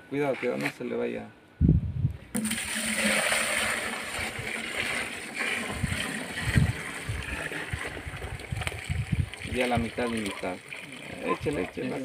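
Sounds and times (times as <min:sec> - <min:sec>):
liquid pouring into plastic bucket: 0:02.3 - 0:12.0.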